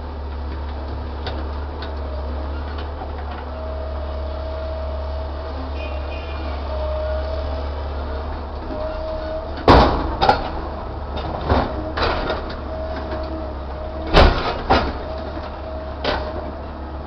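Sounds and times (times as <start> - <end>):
excavator engine humming: 0.0 - 17.0.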